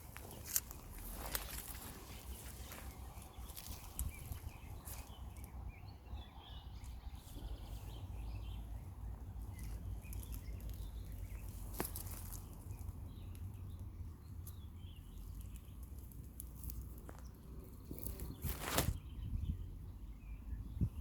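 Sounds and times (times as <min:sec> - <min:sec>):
steady low rumble: 0:00.0 - 0:17.8.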